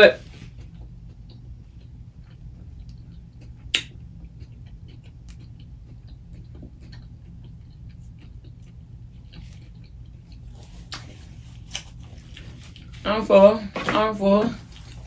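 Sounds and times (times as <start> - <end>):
chewing and lip smacking: 0.3 - 13.0.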